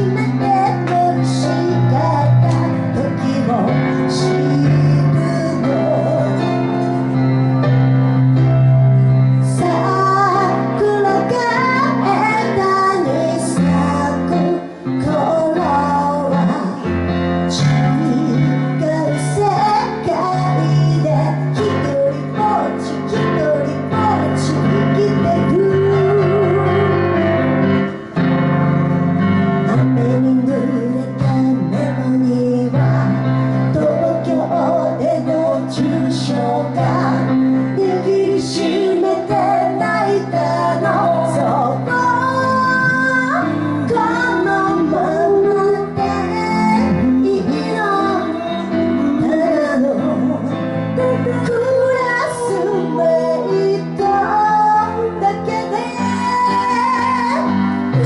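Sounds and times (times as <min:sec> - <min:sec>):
person singing: 0:00.0 - 0:28.6, 0:29.2 - 0:58.0
piano accompaniment: 0:00.0 - 0:58.0.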